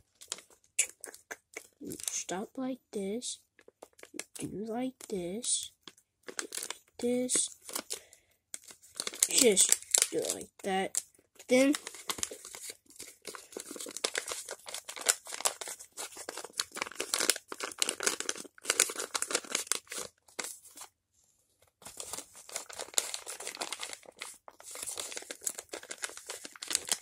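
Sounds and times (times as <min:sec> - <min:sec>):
paper and tape crinkling: 0:00.1 - 0:02.3, 0:03.5 - 0:04.4, 0:05.8 - 0:20.9, 0:21.6 - 0:27.0.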